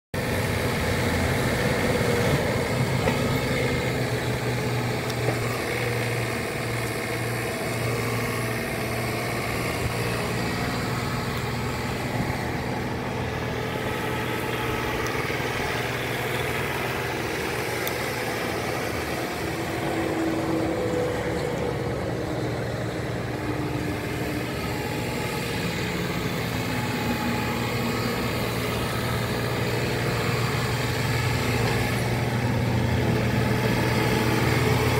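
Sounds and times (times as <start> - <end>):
tractor diesel engine running: 0.1 - 34.9
tractor driving on gravel: 0.1 - 34.9.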